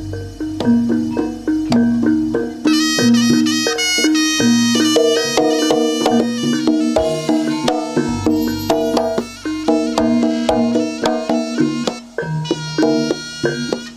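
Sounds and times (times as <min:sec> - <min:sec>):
gamelan notes: 0:00.0 - 0:13.9
hand drum strokes: 0:00.0 - 0:13.9.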